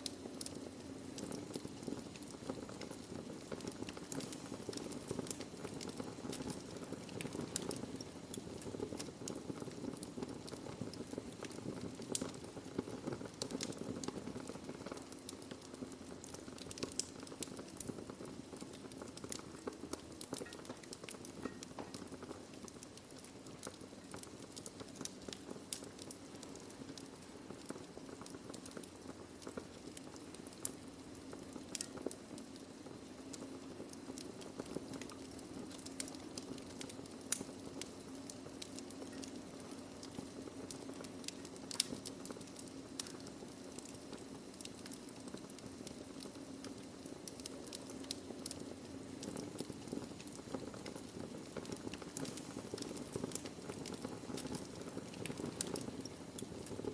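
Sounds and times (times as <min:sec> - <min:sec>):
fire crackling and popping: 0:00.0 - 0:56.9
low rush of fire: 0:00.0 - 0:56.9.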